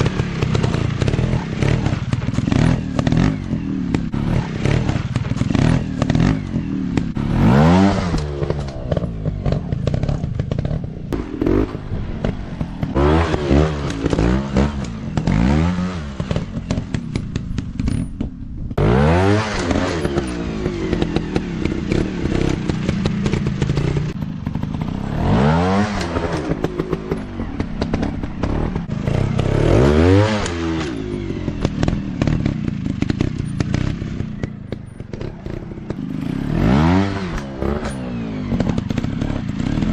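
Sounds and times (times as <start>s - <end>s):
dirt bike engine revving: 0.0s - 18.1s, 18.8s - 39.9s.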